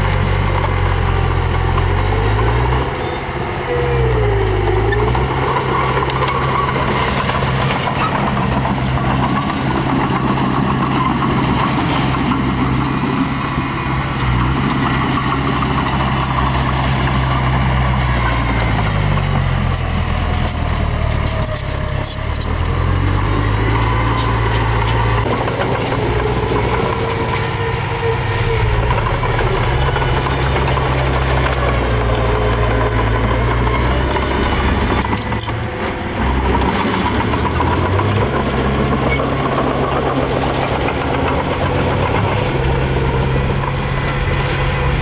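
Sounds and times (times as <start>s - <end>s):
heavy machinery diesel engine: 0.0s - 45.0s.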